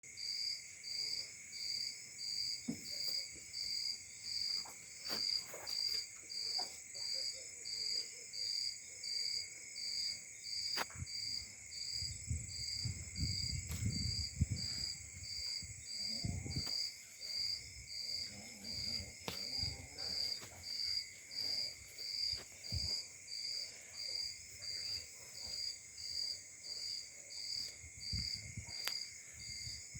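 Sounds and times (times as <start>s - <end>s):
cricket chirping: 0.1s - 29.9s
high insect drone: 0.1s - 29.9s.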